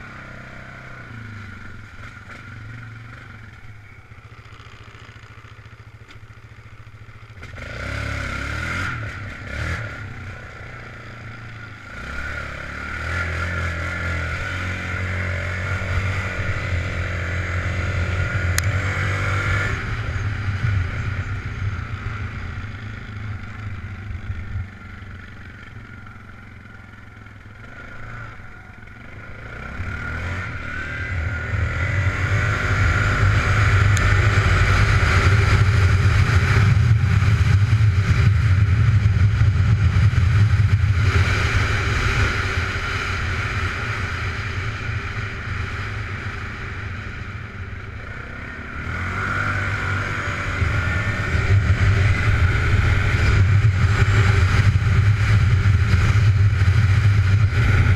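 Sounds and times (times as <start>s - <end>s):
quad bike engine running: 0.0s - 57.9s.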